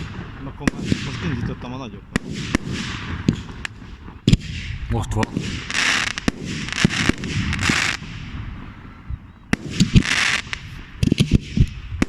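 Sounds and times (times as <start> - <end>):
fireworks bursting with crackle: 0.0 - 12.0.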